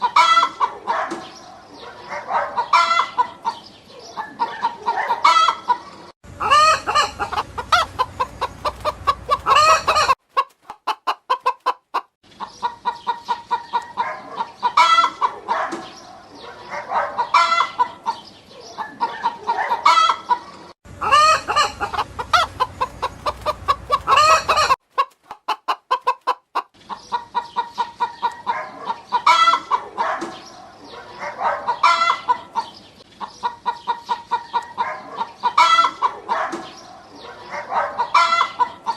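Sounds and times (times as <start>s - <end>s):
hen cackling calls: 0.0s - 1.1s, 1.7s - 15.6s, 16.9s - 30.0s, 31.4s - 36.4s, 37.4s - 38.9s
hens clucking: 0.0s - 38.9s.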